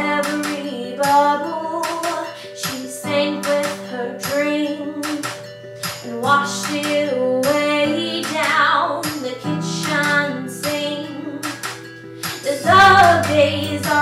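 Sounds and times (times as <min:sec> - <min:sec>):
instrumental backing track: 0:00.0 - 0:14.0
woman singing pop song: 0:00.0 - 0:14.0.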